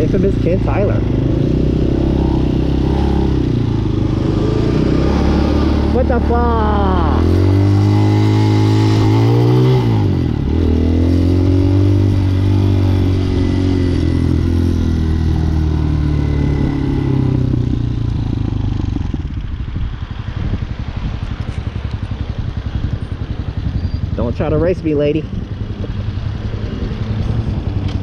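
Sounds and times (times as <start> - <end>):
motorcycle engine slowing: 0.0 - 28.0.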